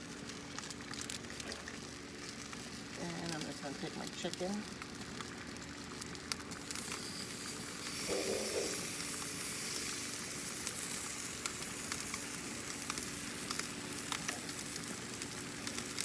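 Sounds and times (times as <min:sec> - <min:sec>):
chicken sizzling on a grill: 0:00.0 - 0:16.0.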